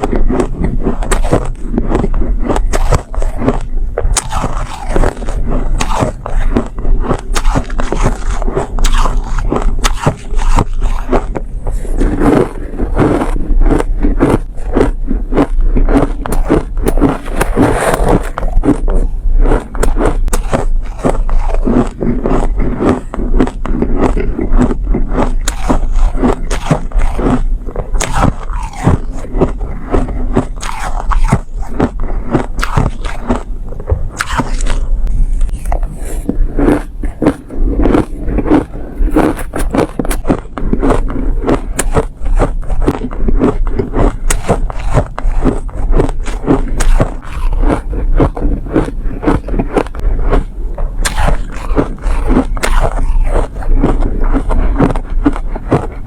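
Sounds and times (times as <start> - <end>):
chewing crunchy ice: 0.0 - 56.0.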